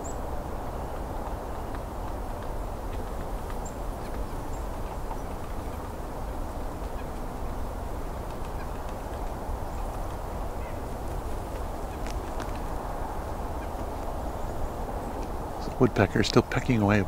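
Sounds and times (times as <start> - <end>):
low background rush: 0.0 - 17.0.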